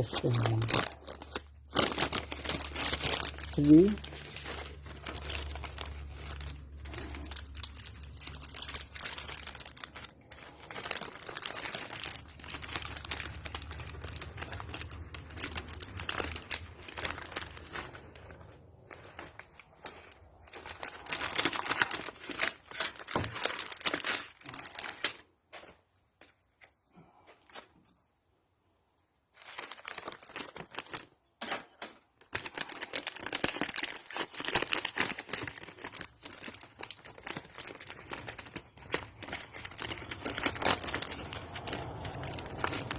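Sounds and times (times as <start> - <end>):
packaging rustling and crinkling: 0.0 - 26.8, 29.3 - 42.9.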